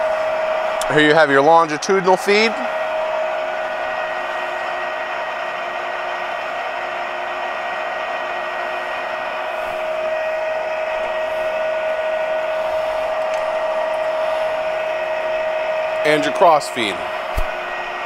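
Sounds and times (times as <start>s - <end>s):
lathe whirring with whining tone: 0.0s - 18.0s.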